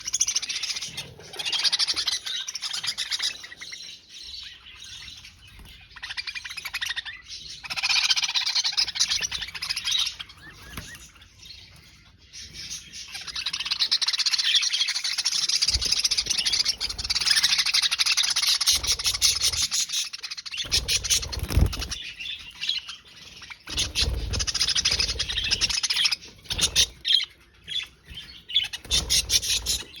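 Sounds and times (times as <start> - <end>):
budgerigars chirping and chattering: 0.0 - 30.0.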